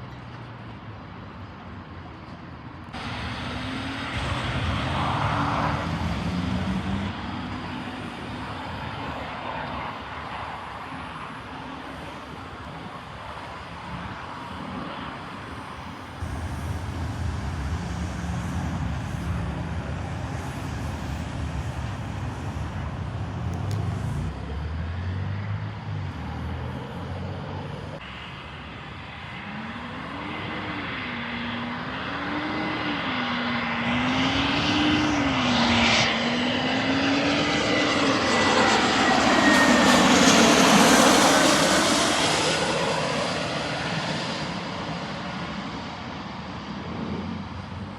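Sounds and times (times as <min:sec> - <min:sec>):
airplane passing overhead: 0:00.0 - 0:47.9.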